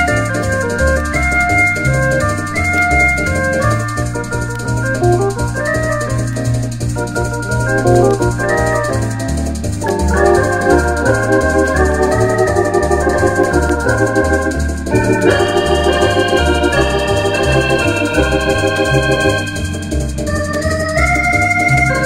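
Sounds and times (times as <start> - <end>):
electronic organ playing: 0.0 - 22.0.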